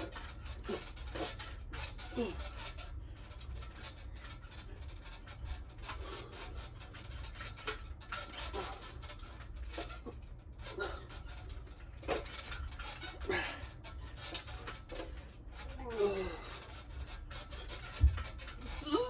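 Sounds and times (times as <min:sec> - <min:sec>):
dip station creaking and clicking: 0:00.0 - 0:19.0
low steady hum: 0:00.0 - 0:19.0.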